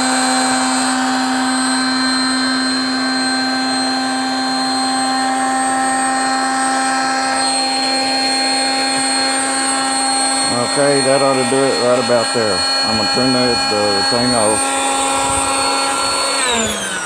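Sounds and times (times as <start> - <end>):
electric air pump humming: 0.0 - 17.0.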